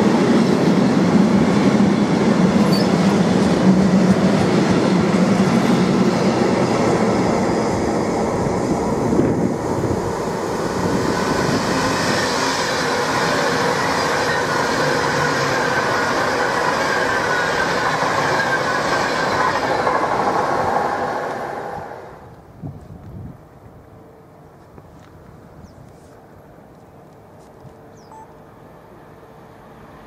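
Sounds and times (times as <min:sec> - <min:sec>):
freight train passing: 0:00.0 - 0:25.6, 0:26.5 - 0:30.0.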